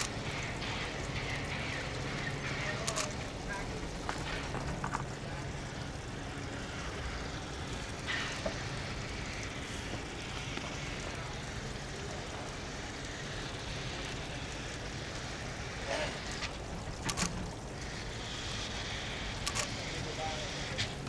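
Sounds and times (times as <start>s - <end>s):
steam hissing: 0.0s - 21.0s
steam locomotive rumble: 0.0s - 21.0s.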